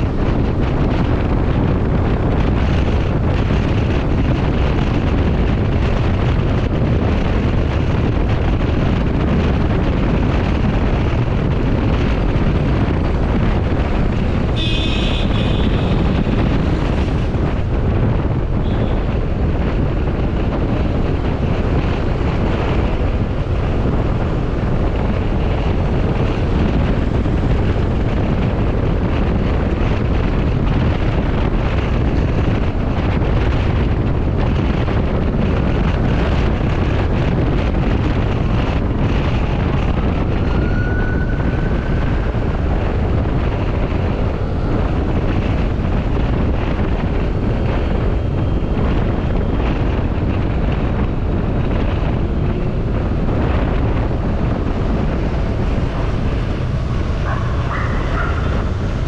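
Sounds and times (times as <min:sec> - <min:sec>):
motorcycle engine and road noise: 0:00.0 - 0:59.0
wind buffeting microphone: 0:00.0 - 0:59.0.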